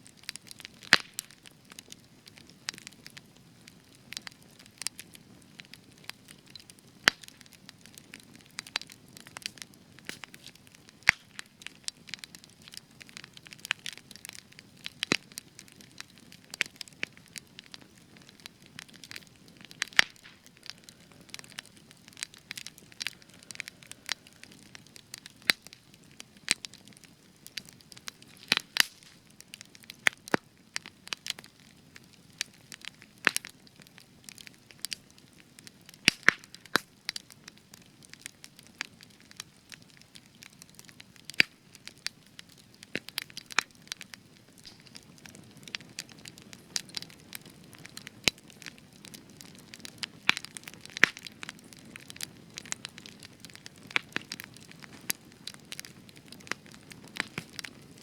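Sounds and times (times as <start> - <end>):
campfire crackling and popping: 0.0 - 58.0
low rumble of burning fire: 0.0 - 58.0.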